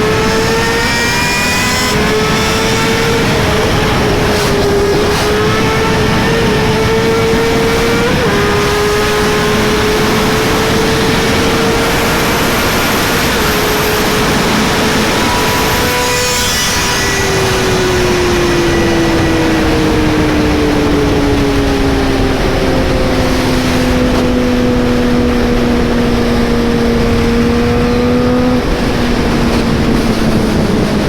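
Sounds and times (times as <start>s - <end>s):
motorcycle engine at speed: 0.0s - 31.0s
wind noise on microphone: 0.0s - 31.0s.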